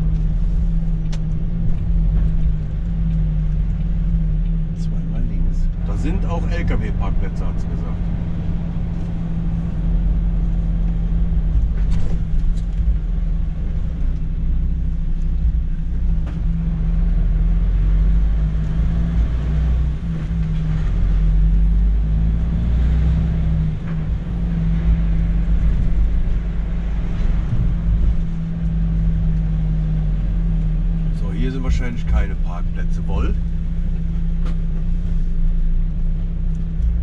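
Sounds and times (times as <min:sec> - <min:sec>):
diesel truck engine droning: 0:00.0 - 0:37.0.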